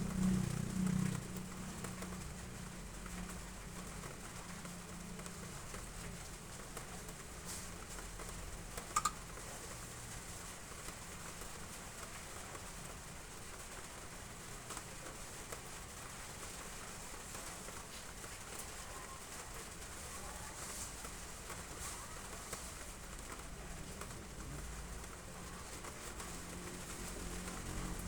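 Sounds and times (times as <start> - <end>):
rain on roof tiles: 0.0 - 28.0.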